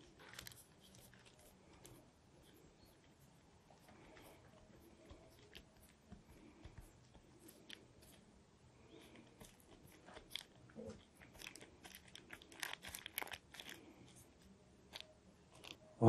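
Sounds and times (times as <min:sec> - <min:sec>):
pastry crackling as rolled: 0:00.0 - 0:15.8.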